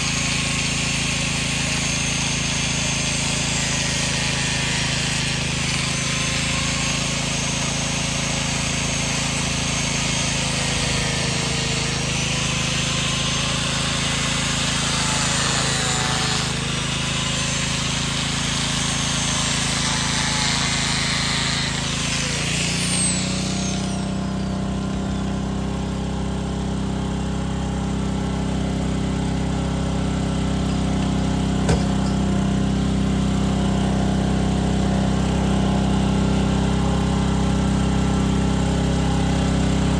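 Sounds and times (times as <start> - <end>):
high-pitched power tool running: 0.0 - 39.9
small engine running: 0.0 - 39.9.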